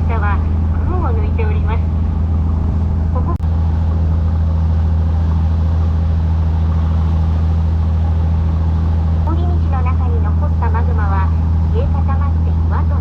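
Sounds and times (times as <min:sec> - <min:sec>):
engine droning steadily: 0:00.0 - 0:13.0.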